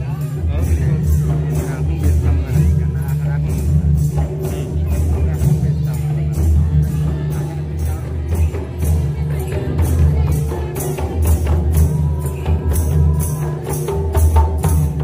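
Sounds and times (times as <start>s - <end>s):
bright percussion accent: 0.0s - 15.0s.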